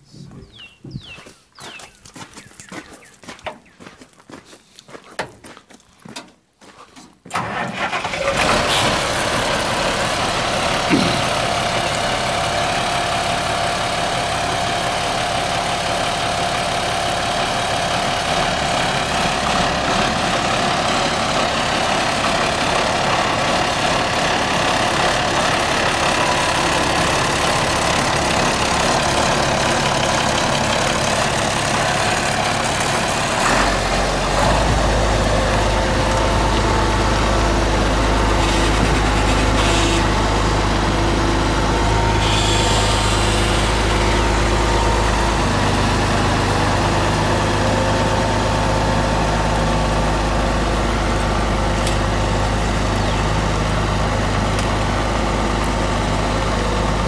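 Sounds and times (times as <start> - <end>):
tractor diesel engine starting: 7.3 - 57.0.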